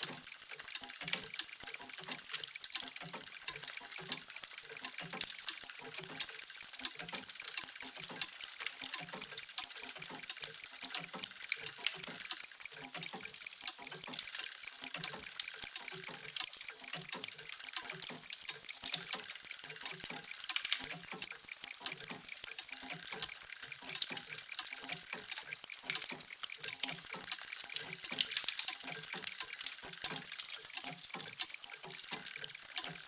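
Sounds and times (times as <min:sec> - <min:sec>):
mechanical clocks ticking: 0:00.0 - 0:33.0.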